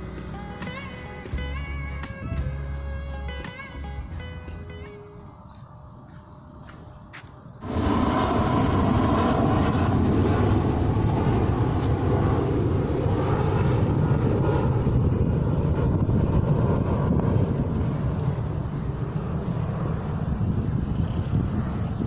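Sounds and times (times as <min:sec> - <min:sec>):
airplane engine drone: 0:00.0 - 0:22.0.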